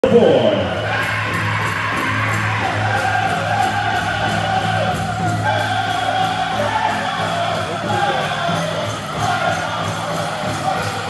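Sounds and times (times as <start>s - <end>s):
high-pitched wavering group singing: 0.7s - 11.0s.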